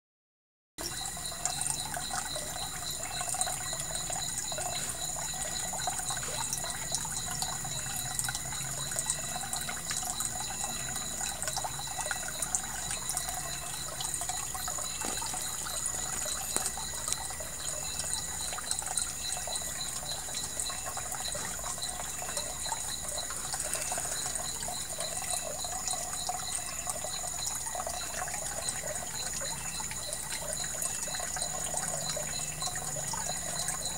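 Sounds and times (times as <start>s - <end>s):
water trickling into pond: 0.8s - 33.9s.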